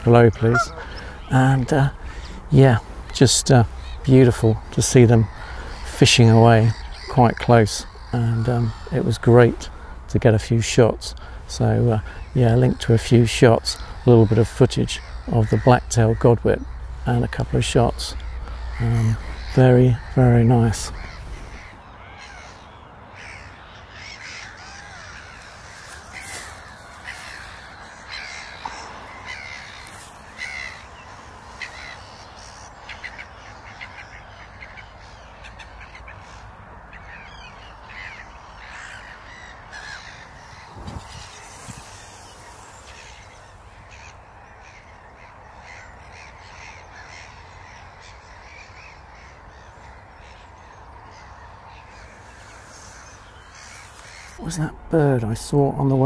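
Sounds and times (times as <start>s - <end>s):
harsh caw-like bird calls: 0.0s - 10.1s, 11.1s - 54.7s
low steady background: 0.0s - 56.0s.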